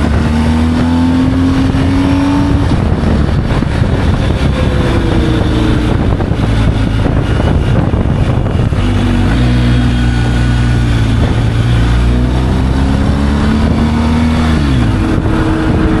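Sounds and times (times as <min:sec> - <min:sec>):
motorcycle engine running: 0:00.0 - 0:16.0
wind rush: 0:00.0 - 0:16.0.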